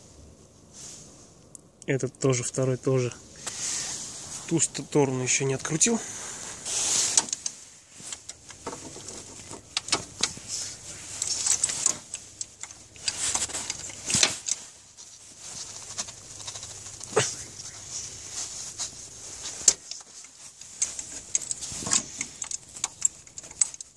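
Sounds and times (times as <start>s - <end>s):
hands and sleeve rustling: 3.2s - 23.9s.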